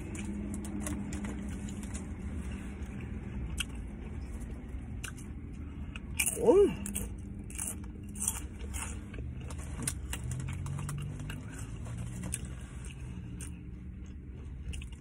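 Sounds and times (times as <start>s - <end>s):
chewing crunchy chips: 0.0s - 15.0s
low car cabin hum: 0.0s - 15.0s.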